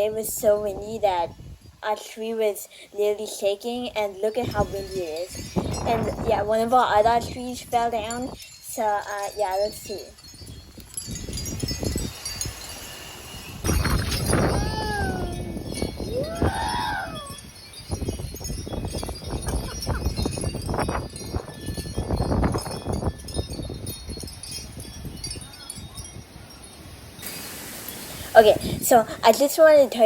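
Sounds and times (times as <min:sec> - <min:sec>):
wind buffeting microphone: 0:00.0 - 0:01.8, 0:04.4 - 0:30.0
wind chimes jingling: 0:04.3 - 0:30.0.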